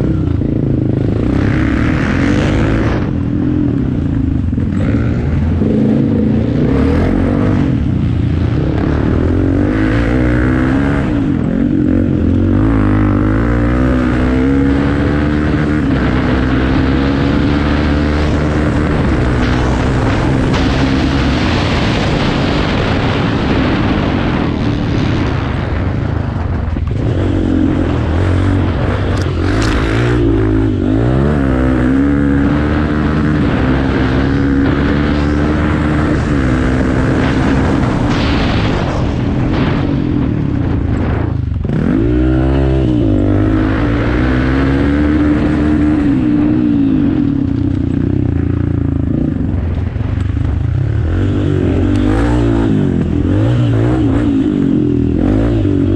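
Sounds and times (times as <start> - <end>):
off-road motorcycle engine revving: 0.0 - 55.9.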